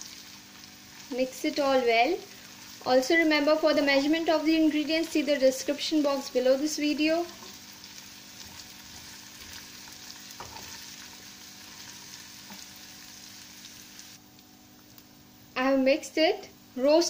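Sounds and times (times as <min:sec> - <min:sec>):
food sizzling in a frying pan: 0:00.0 - 0:14.4.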